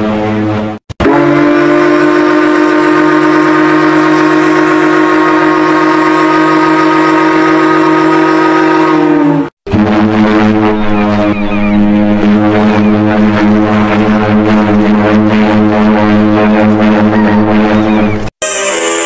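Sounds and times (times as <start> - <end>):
ship's whistle blast: 1.0 - 19.0.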